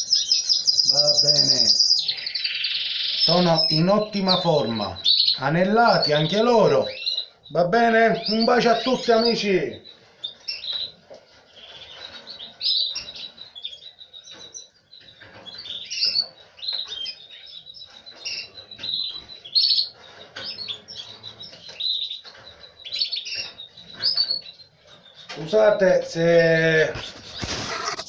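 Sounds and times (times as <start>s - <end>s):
canaries chirping: 0.0s - 28.0s.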